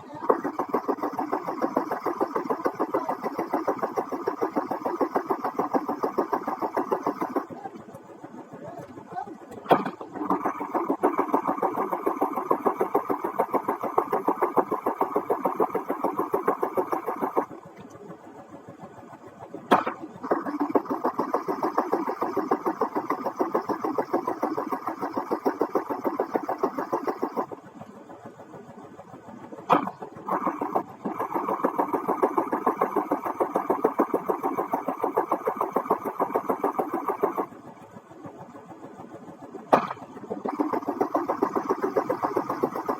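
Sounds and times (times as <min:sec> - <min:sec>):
machine rhythmic pulsing: 0:00.0 - 0:42.9
rapid mechanical rattling: 0:00.0 - 0:42.9.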